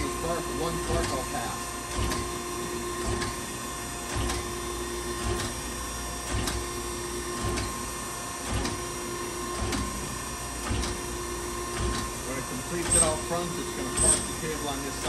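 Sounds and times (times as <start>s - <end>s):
grinding machine hum: 0.0s - 15.0s.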